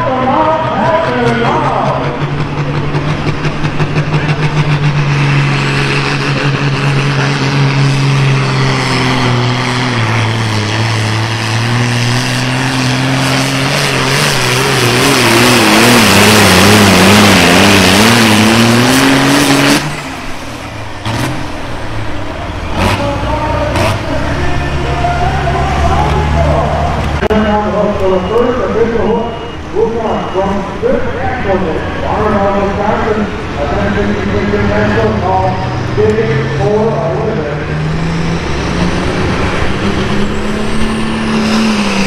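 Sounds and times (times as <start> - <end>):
tractor diesel engine at full throttle: 0.0 - 42.0.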